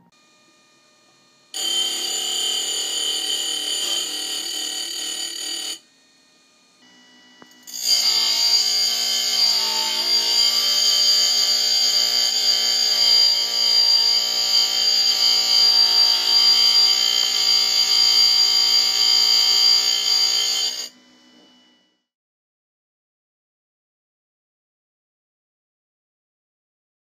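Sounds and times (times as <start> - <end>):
grinding wheel high-pitched whine: 0.0 - 22.1.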